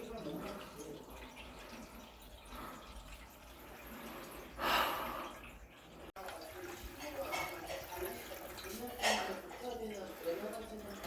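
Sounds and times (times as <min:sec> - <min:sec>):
water dripping and trickling: 0:00.0 - 0:11.0
water spurt: 0:00.0 - 0:11.0.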